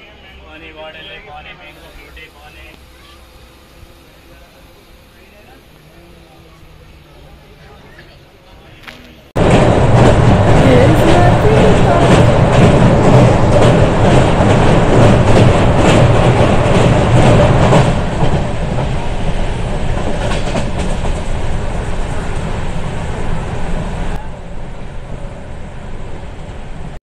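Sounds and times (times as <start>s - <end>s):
train rumbling over bridge: 0.0s - 27.0s.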